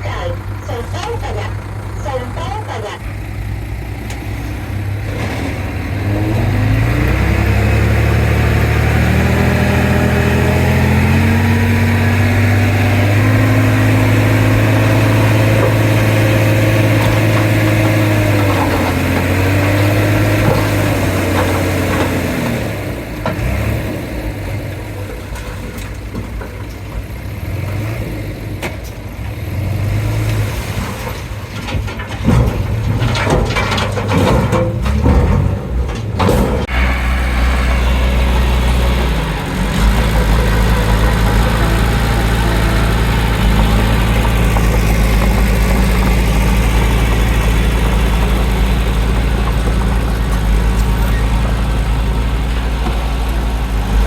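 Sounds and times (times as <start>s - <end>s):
heavy diesel engine revving: 0.0s - 26.4s, 27.0s - 54.0s.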